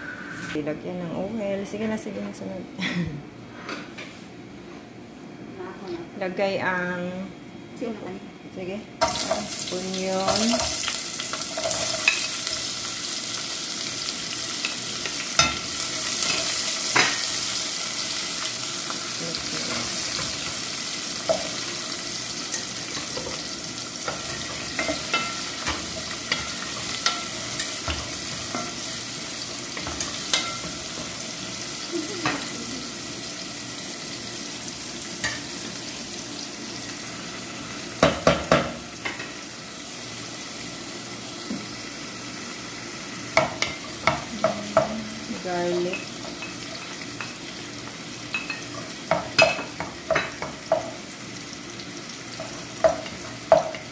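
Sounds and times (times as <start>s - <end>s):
onions sizzling in oil: 9.0s - 53.9s.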